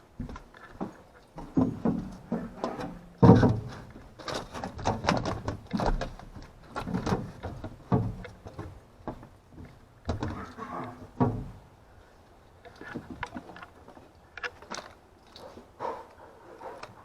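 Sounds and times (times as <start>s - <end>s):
irregular knocks and clatters: 0.1s - 11.7s, 12.6s - 15.7s.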